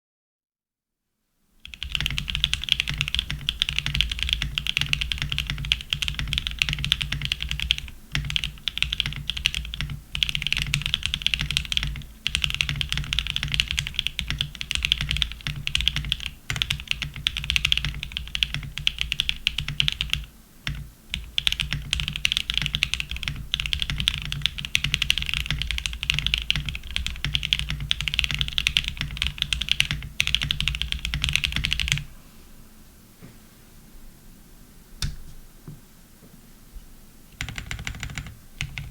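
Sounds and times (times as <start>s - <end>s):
mechanical keyboard typing: 1.6s - 32.1s, 37.4s - 38.9s.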